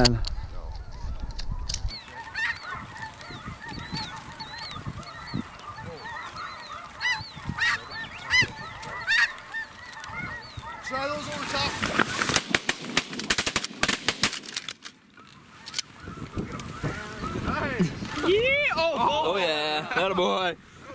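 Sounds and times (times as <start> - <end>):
snow geese honking: 1.9 - 13.2, 15.1 - 20.9.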